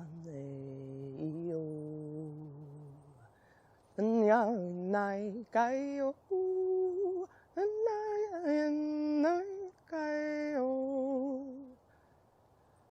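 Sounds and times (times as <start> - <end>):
woman singing wordless notes: 0.0 - 3.2, 4.0 - 11.8.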